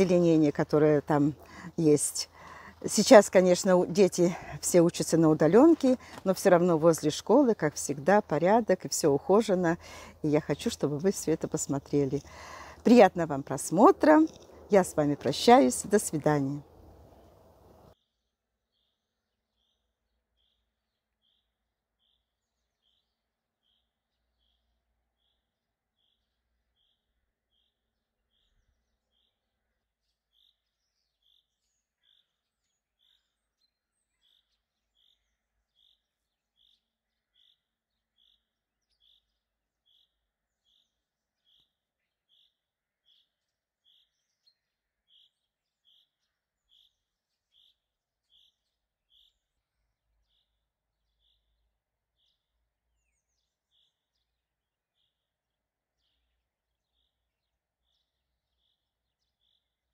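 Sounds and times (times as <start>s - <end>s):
birds chirping faintly: 0.0s - 59.9s.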